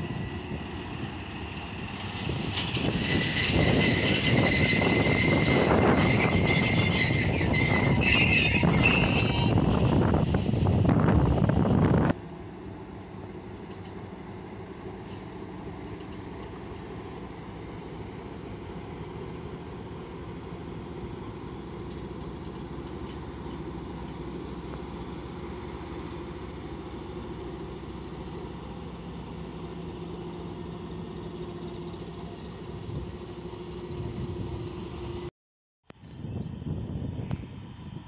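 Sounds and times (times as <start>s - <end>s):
locomotive diesel engine running: 0.0s - 35.3s.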